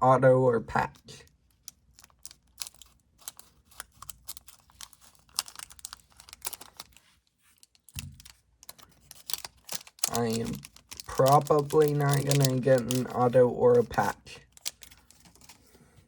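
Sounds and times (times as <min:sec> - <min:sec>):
foil wrapper crinkling: 0:01.4 - 0:15.9.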